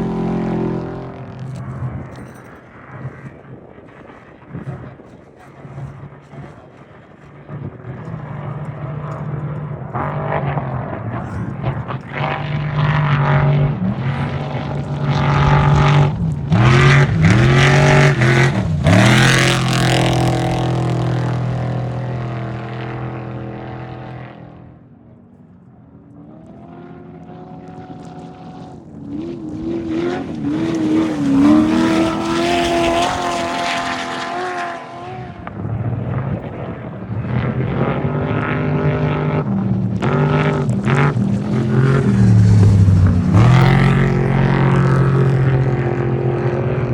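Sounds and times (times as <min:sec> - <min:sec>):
race vehicle engines revving past: 0:00.0 - 0:02.5, 0:07.4 - 0:24.7, 0:26.2 - 0:46.9.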